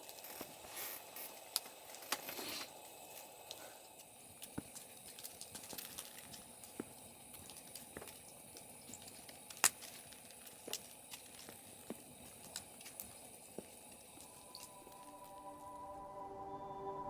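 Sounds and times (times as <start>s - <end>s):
campfire crackling and popping: 0.0s - 15.8s.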